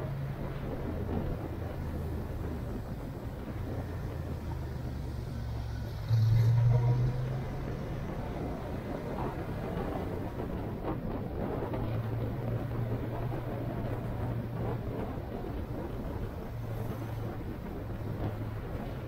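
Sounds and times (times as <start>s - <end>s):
road and wind noise: 0.0s - 19.0s
vehicle engine humming: 0.0s - 19.0s.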